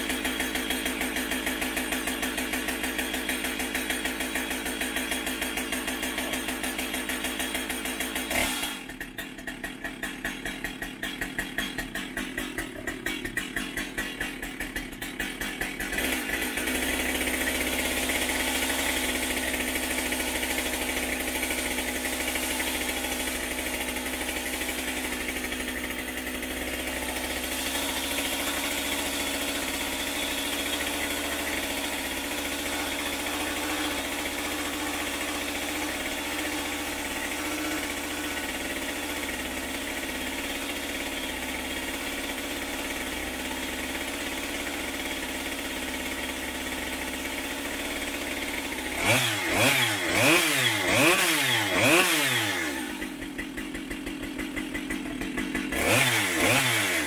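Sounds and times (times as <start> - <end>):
chainsaw engine idling and revving: 0.0 - 57.0.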